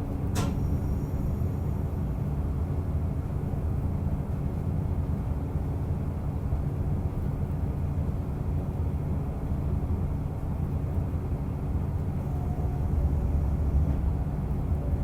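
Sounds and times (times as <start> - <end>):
railcar engine rumble: 0.0 - 15.0.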